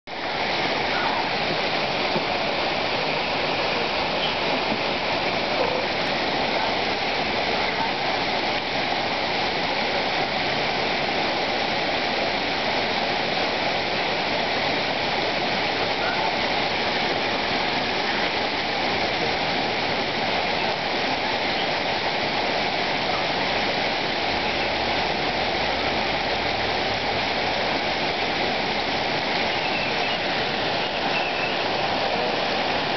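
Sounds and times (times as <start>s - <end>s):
stream water rushing: 0.1s - 32.9s.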